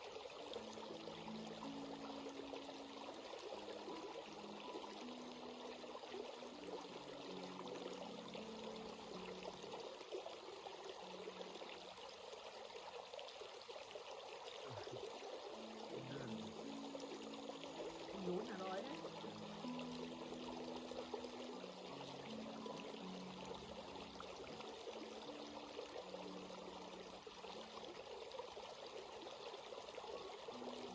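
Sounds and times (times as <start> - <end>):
stream flowing over rocks: 0.0 - 30.9.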